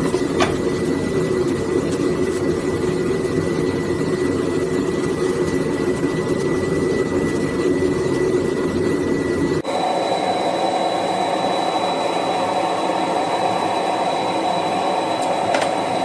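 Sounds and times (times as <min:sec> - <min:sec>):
forge burners rushing: 0:00.0 - 0:16.0.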